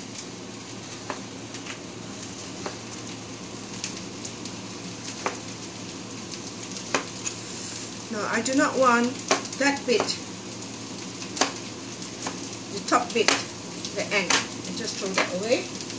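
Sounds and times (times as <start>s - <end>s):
rice sizzling in a wok: 0.0s - 15.9s.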